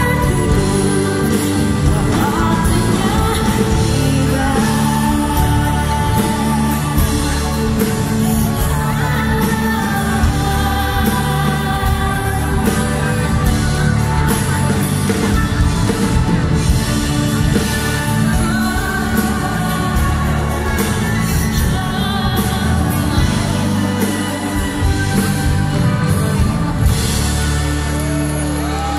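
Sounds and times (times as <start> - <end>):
woman singing pop ballad: 0.0 - 15.6, 17.4 - 26.2
live band and strings: 0.0 - 28.9.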